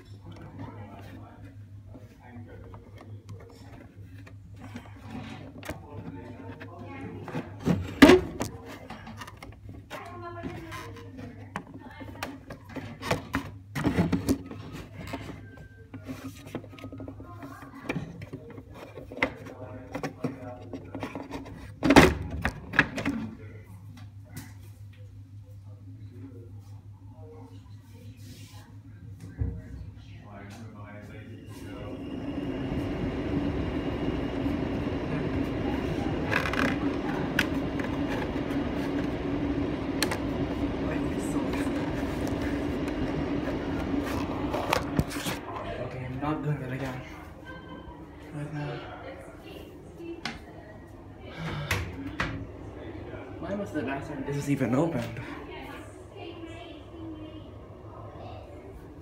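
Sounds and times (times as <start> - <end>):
exhaust fan motor hum: 0.0 - 59.0.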